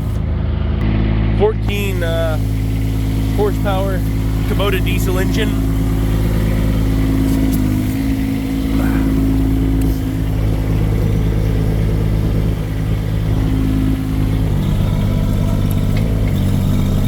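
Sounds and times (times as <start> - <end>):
mini excavator diesel engine: 0.0 - 17.0.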